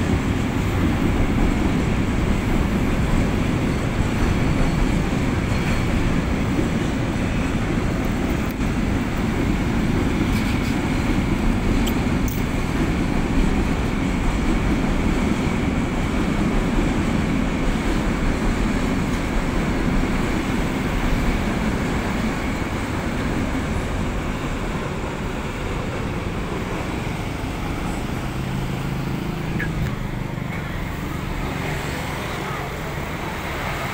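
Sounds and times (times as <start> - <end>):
freight train wagons rumbling: 0.0 - 33.9.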